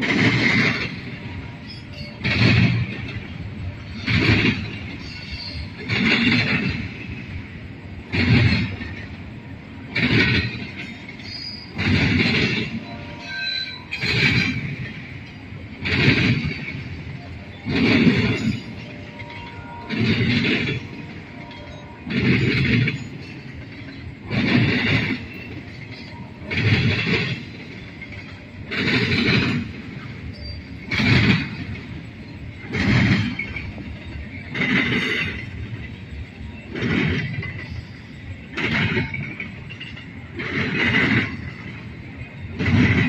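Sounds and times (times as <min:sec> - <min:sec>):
freight train rumble: 0:00.0 - 0:43.0
train wheels clacking over rail joint: 0:00.0 - 0:43.0.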